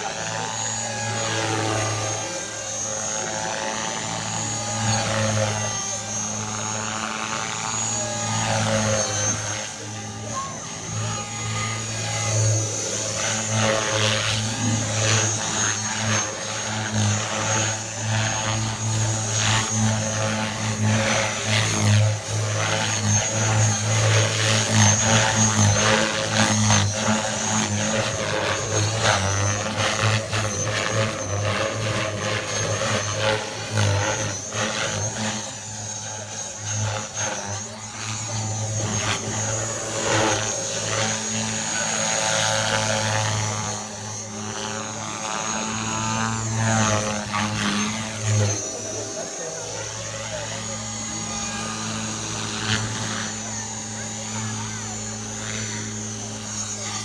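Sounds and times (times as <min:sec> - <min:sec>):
high rotor whine: 0:00.0 - 0:57.0
rc helicopter buzzing drone: 0:00.0 - 0:57.0.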